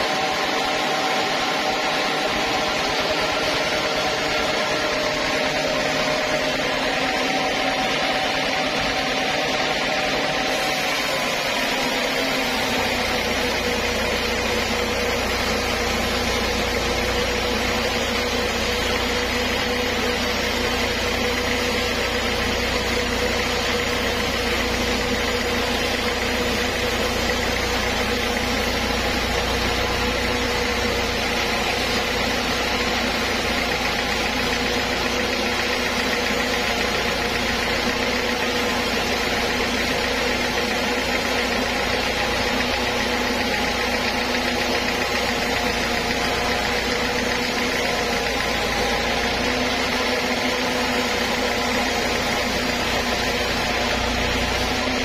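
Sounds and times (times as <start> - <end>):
band sawmill humming: 0.0 - 55.0.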